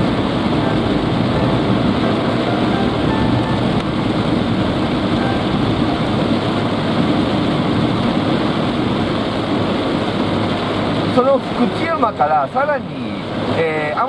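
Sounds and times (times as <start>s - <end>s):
rain on car roof: 0.0s - 14.0s
tyres on wet road: 0.0s - 14.0s.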